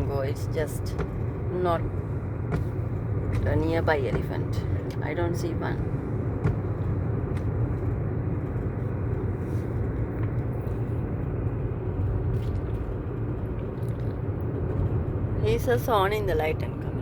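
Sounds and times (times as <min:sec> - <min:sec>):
vehicle driving rumble: 0:00.0 - 0:17.0.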